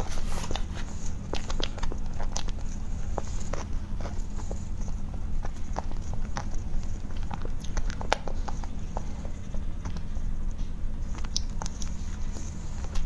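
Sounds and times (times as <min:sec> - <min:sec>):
person chewing: 0:00.0 - 0:13.0
steady low hum: 0:00.0 - 0:13.0
sticky squishes of cake: 0:00.0 - 0:13.0.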